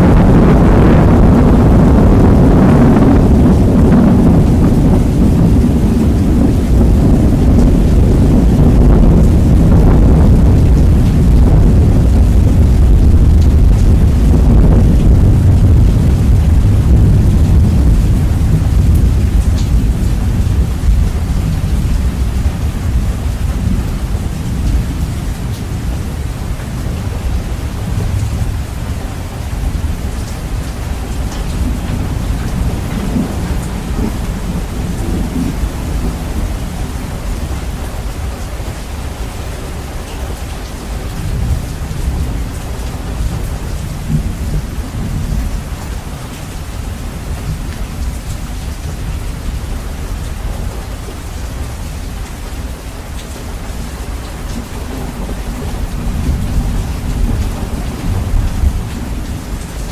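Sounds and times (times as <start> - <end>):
heavy rain: 0.0 - 59.9
low thunder rumble: 0.0 - 59.9.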